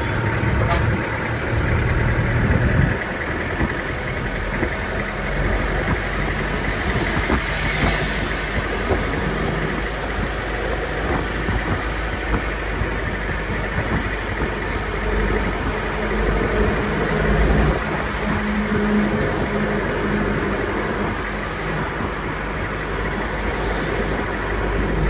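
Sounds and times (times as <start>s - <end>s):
car engine running: 0.0s - 25.0s
road noise: 0.0s - 25.0s
wind noise: 0.0s - 25.0s.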